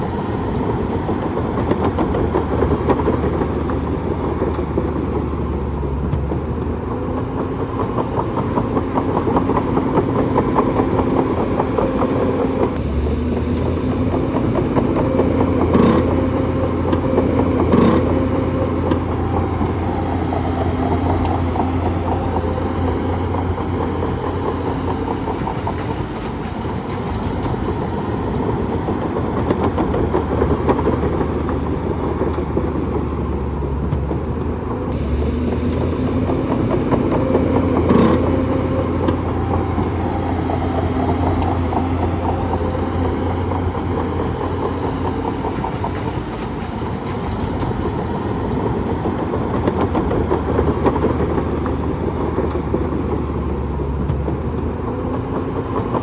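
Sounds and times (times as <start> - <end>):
bulldozer engine droning: 0.0 - 56.0
crawler tracks clattering: 0.0 - 56.0.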